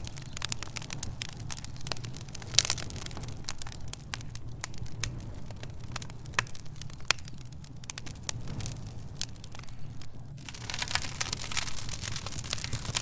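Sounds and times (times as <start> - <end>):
low rumble of flame: 0.0 - 13.0
wood fire crackling: 0.0 - 13.0.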